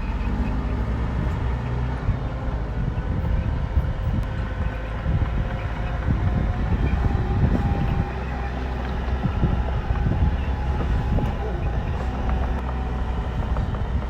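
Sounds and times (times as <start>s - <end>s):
bulldozer diesel engine rumbling: 0.0s - 14.0s.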